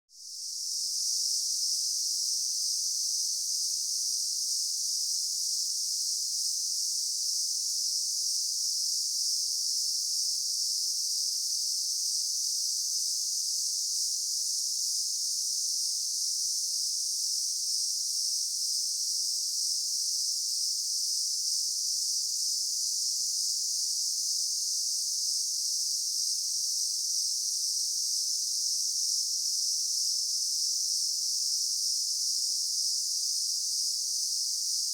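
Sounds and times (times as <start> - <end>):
insect chorus drone: 0.2 - 34.9.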